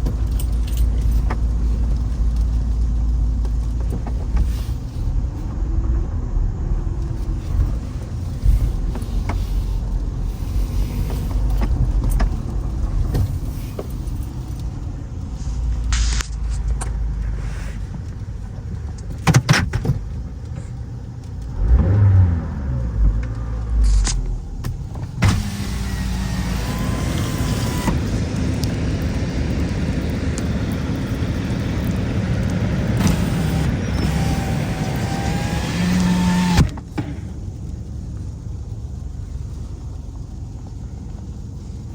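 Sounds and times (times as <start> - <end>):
engine and road rumble: 0.0 - 41.9.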